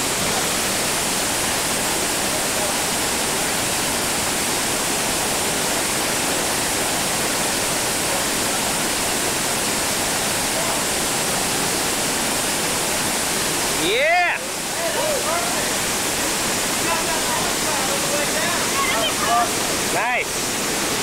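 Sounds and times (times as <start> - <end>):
whitewater rushing over rocks: 0.0 - 21.0.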